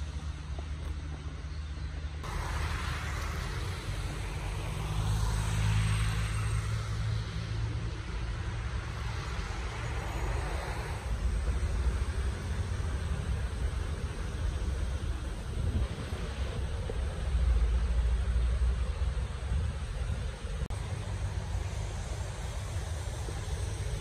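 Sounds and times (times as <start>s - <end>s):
car driving road noise: 0.0s - 24.0s.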